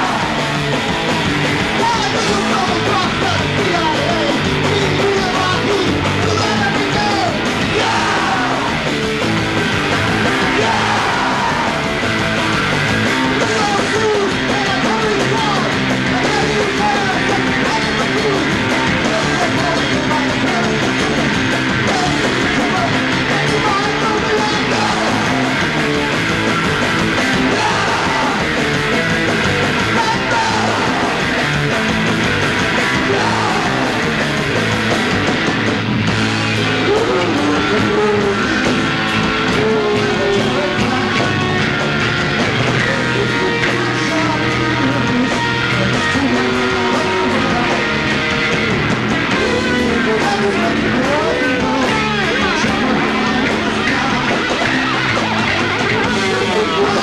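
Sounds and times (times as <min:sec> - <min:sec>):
singer yelling and singing: 0:00.0 - 0:35.8, 0:36.5 - 0:57.0
punk rock band playing: 0:00.0 - 0:57.0.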